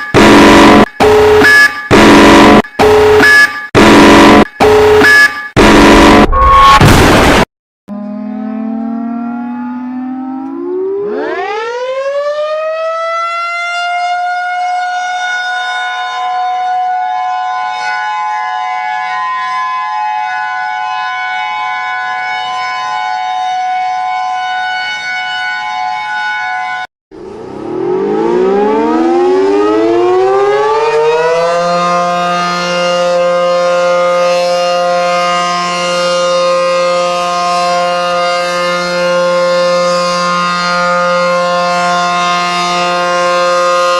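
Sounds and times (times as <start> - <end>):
warning siren winding up: 0.0 - 26.8, 27.4 - 43.9
deeper chord-like siren: 0.0 - 43.9.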